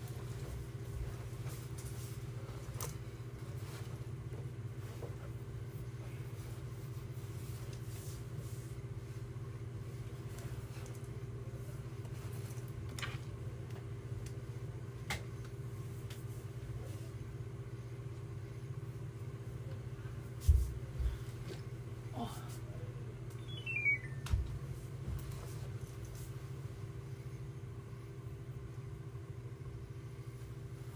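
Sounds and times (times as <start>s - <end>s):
low background hum: 0.0s - 30.9s.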